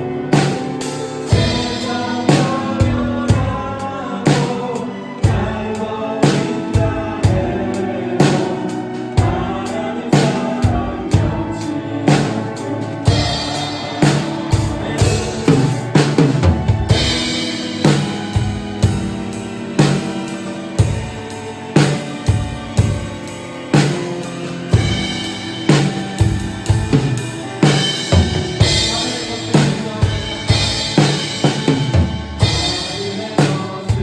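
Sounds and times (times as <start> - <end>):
drum kit beat: 0.0 - 34.0
worship song backing track: 0.0 - 34.0.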